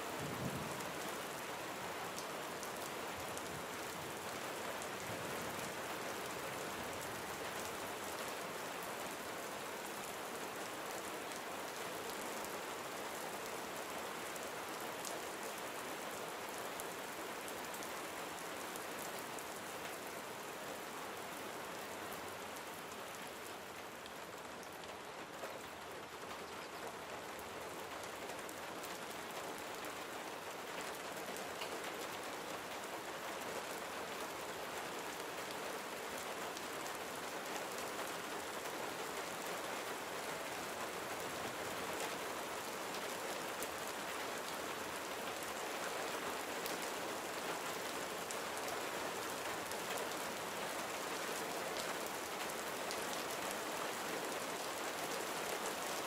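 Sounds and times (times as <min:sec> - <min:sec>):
gentle rain pattering: 0:00.0 - 0:56.0.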